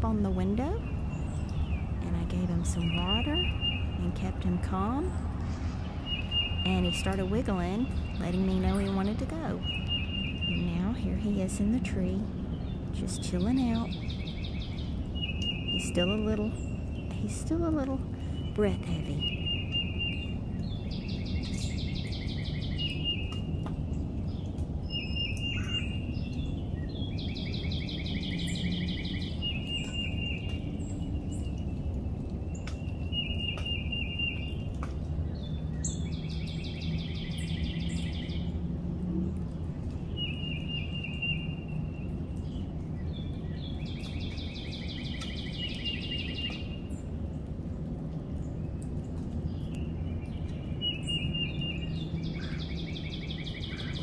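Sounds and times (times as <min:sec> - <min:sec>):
songbird song of quick notes: 0:00.0 - 0:38.6, 0:39.2 - 0:54.0
low rumble background noise: 0:00.0 - 0:54.0.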